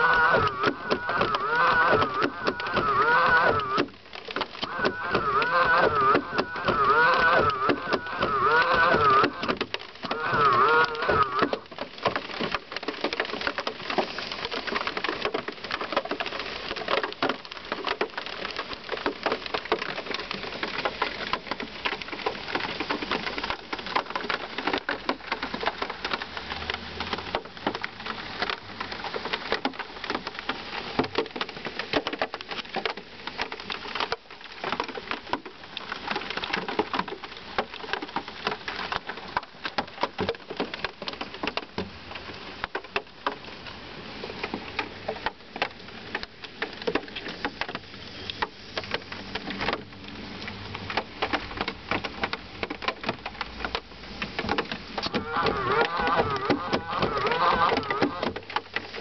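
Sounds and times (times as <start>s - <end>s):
rain pattering on a shell: 0.0s - 59.0s.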